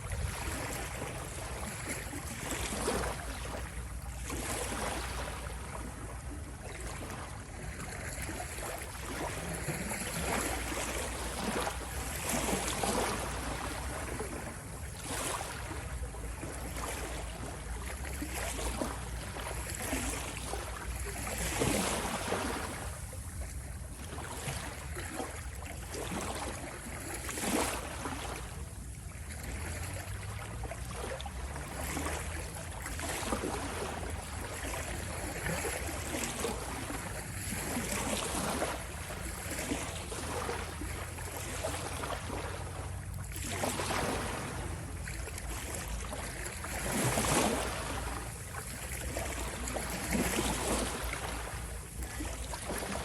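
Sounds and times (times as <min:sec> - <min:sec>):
ocean waves washing in: 0:00.0 - 0:23.3, 0:24.0 - 0:53.0.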